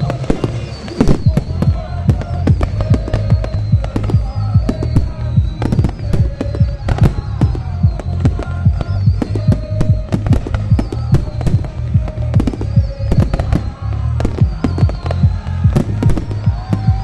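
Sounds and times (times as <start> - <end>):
fireworks bursting: 0.0 - 17.0
music playing: 0.0 - 17.0.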